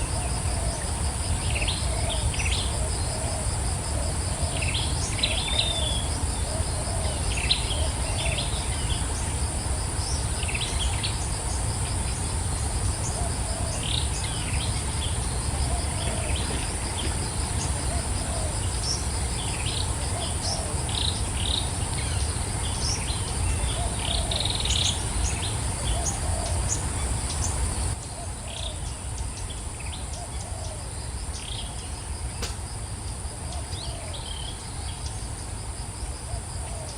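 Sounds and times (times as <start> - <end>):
birds chirping: 0.0 - 32.6
insect chorus with pulsing trill: 0.0 - 36.9.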